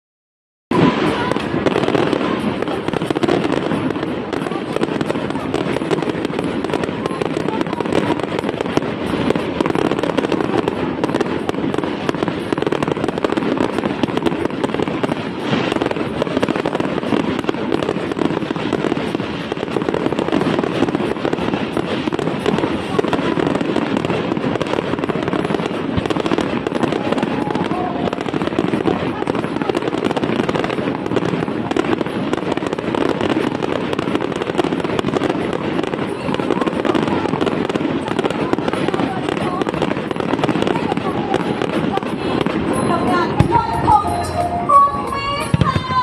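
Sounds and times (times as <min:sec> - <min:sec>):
fireworks crackling and popping: 0:00.7 - 0:46.0.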